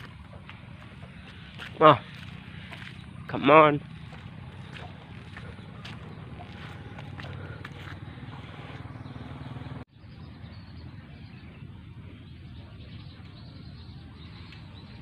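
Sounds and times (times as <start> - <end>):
rural ambience: 0.0 - 15.0.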